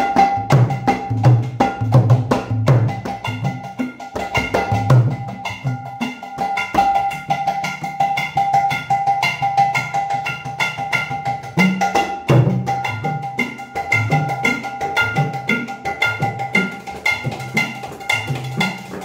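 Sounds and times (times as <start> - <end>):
hand drum played fast: 0.0 - 19.0.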